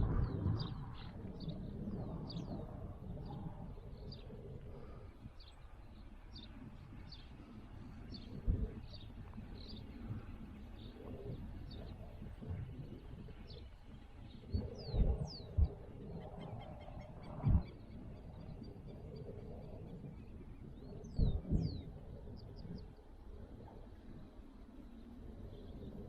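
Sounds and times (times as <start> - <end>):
small birds chirping: 0.2 - 23.1.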